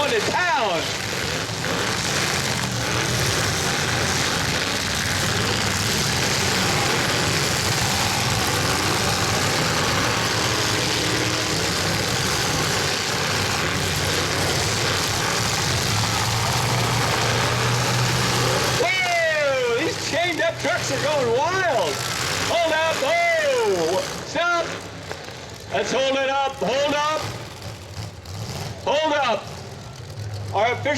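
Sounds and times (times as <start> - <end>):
truck engines revving: 0.0 - 30.9.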